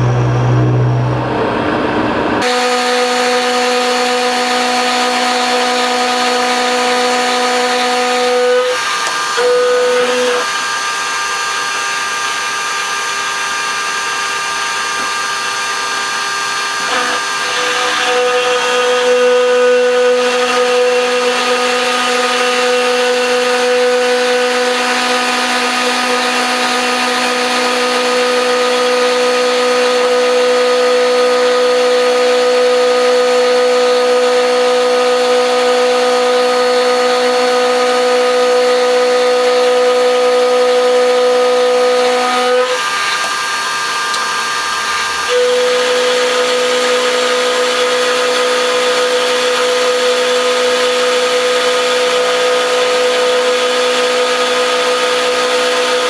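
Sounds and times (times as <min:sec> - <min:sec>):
machine tool motor whine: 0:00.0 - 0:56.0.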